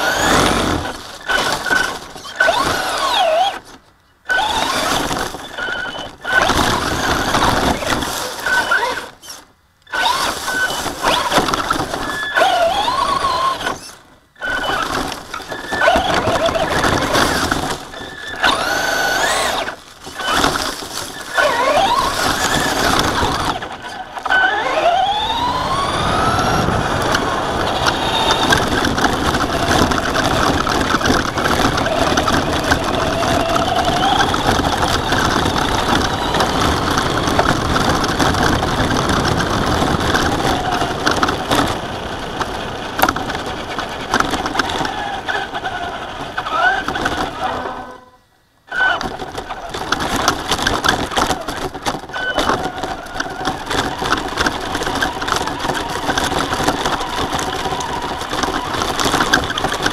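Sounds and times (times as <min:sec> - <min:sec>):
rattling: 0:00.0 - 0:48.1, 0:48.7 - 0:59.9
toy truck motor whine: 0:00.0 - 0:59.9
tyre noise on asphalt and dirt: 0:00.0 - 0:59.9.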